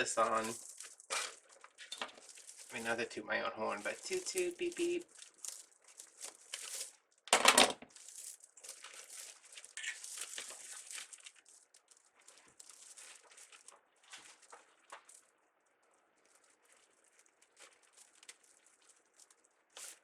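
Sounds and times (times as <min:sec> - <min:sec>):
plastic mesh and ribbon crinkling: 0:00.0 - 0:20.0.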